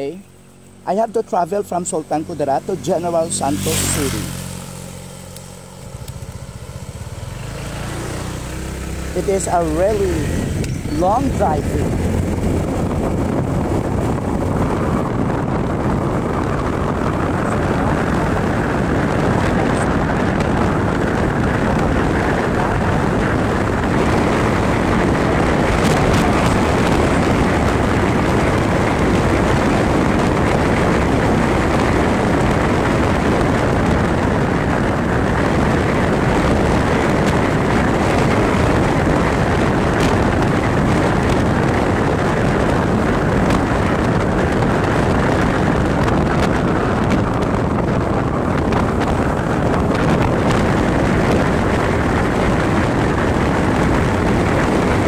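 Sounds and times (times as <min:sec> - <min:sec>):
road noise: 0:00.0 - 0:55.0
wind buffeting microphone: 0:00.0 - 0:55.0.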